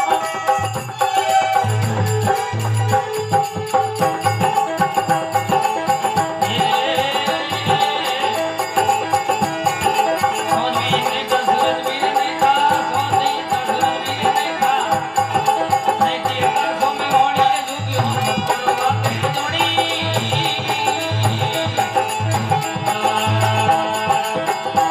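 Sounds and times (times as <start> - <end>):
hand drums: 0.0 - 24.9.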